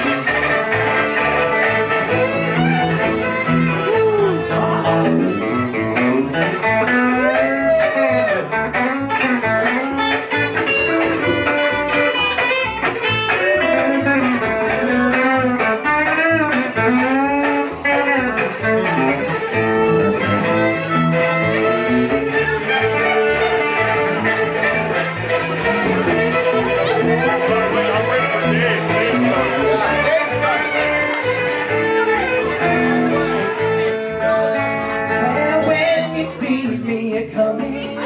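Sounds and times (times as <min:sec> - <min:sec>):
live band playing upbeat tune: 0:00.0 - 0:38.0.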